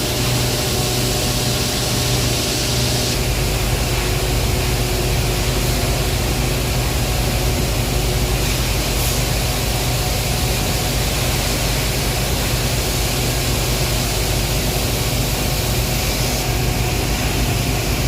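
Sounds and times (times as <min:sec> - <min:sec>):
machinery hiss: 0:00.0 - 0:18.0
machinery low hum: 0:00.0 - 0:18.0.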